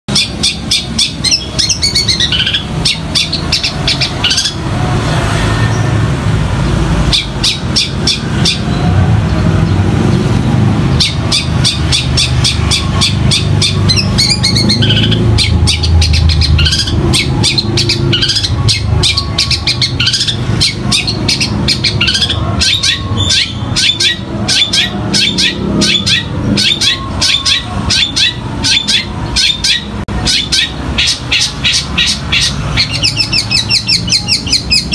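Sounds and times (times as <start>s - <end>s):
bird chattering chirps: 0.1s - 4.7s, 7.0s - 8.8s, 10.4s - 34.9s.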